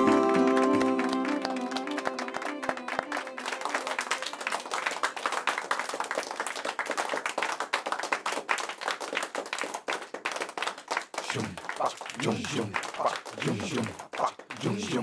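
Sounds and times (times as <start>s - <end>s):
people clapping in applause: 0.0s - 15.0s.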